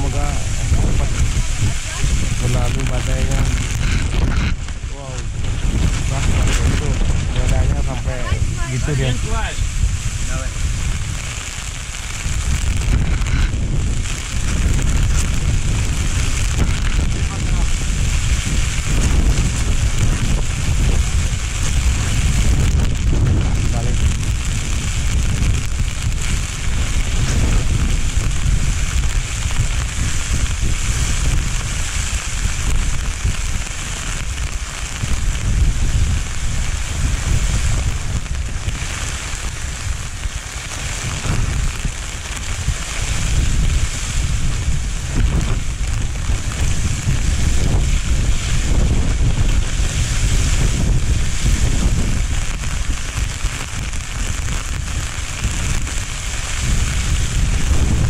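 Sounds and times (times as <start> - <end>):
steady rushing hiss: 0.0 - 58.0
wind buffeting microphone: 0.0 - 58.0.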